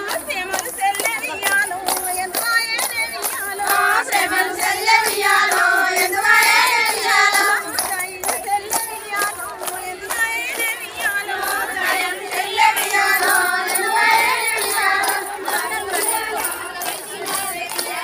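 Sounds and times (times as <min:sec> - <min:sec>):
hands clapping in rhythm: 0:00.0 - 0:18.0
women singing folk song: 0:00.0 - 0:18.0.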